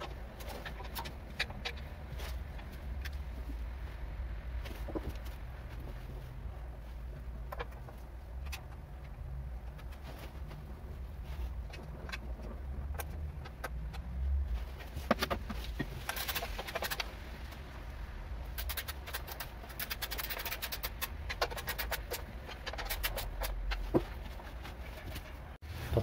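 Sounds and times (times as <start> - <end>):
hand tools and wires clicking: 0.0 - 3.5, 7.1 - 17.6, 18.4 - 25.5.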